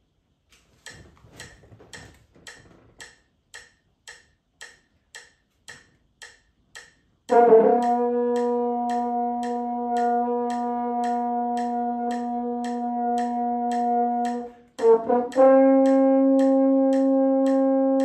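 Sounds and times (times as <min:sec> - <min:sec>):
metronome clicking: 0:00.8 - 0:18.0.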